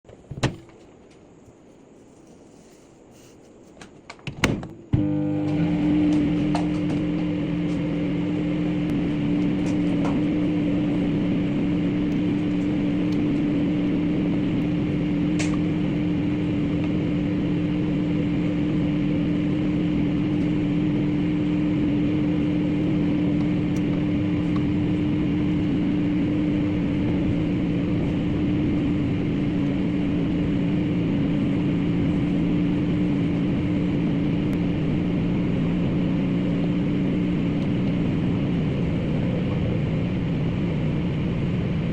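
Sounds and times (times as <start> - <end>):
microwave oven humming: 4.4 - 41.9.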